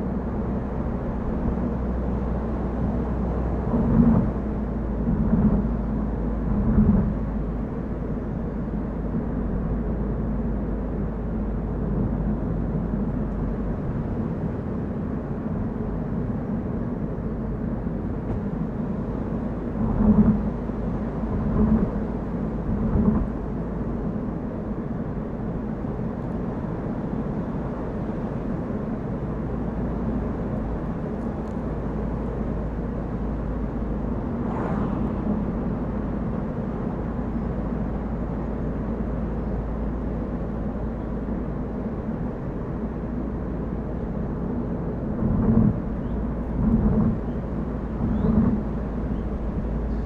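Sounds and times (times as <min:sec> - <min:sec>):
car driving rumble: 0:00.0 - 0:50.0.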